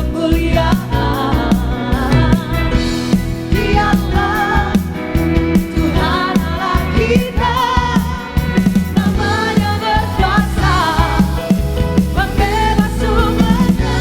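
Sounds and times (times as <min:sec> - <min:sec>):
bass guitar: 0:00.0 - 0:14.0
drums with steady beat: 0:00.0 - 0:14.0
singers' voices: 0:00.0 - 0:14.0
worship band playing: 0:00.0 - 0:14.0.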